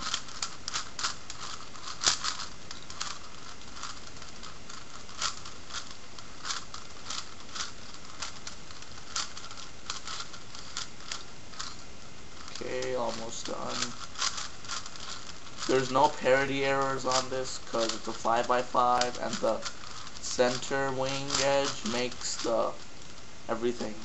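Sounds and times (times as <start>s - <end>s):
puzzle cube layers clicking: 0.0s - 24.0s
steady background hiss: 0.0s - 24.0s.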